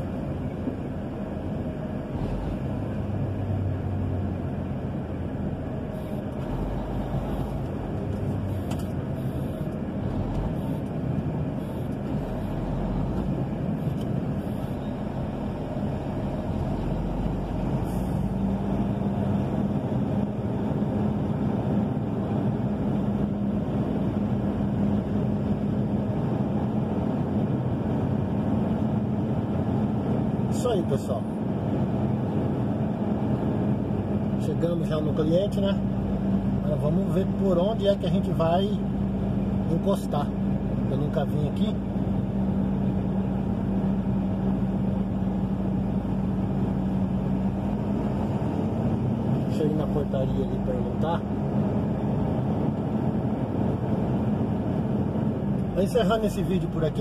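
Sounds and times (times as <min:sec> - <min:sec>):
road noise: 0:00.0 - 0:57.0
truck diesel engine hum: 0:00.0 - 0:57.0.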